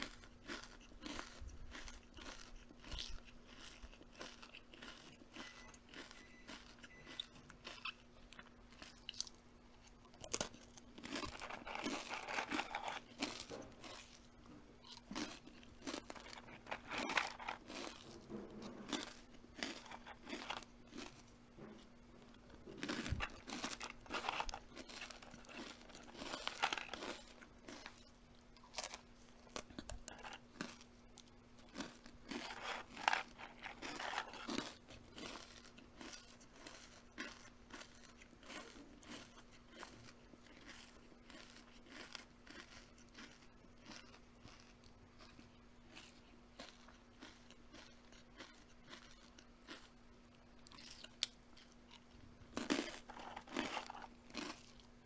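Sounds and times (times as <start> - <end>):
crunchy food being chewed: 0.0 - 55.0
faint steady hum: 0.0 - 55.0.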